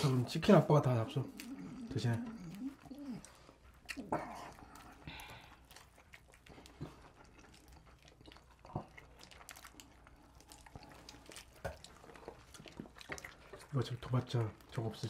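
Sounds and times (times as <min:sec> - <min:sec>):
people chewing: 0:00.0 - 0:15.0
mouth clicks and smacks: 0:00.1 - 0:15.0.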